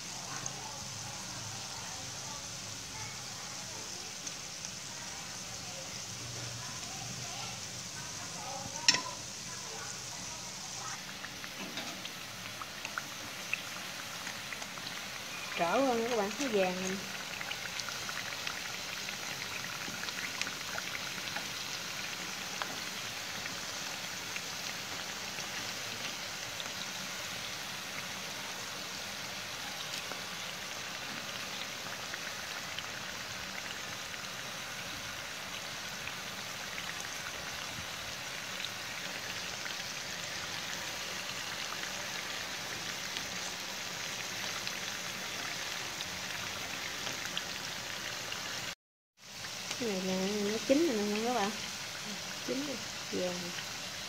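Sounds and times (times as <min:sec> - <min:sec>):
oil sizzling while deep-frying: 0:00.0 - 0:54.0.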